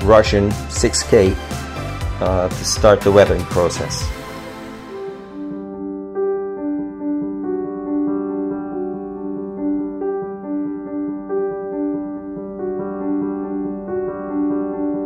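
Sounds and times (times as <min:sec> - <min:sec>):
keyboard melody over held note: 0:00.0 - 0:15.0.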